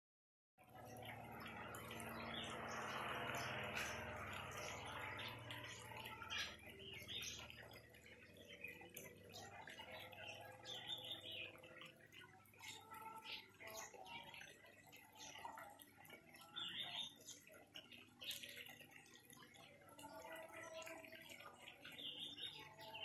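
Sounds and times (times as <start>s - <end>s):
small birds chirping: 0.6s - 23.0s.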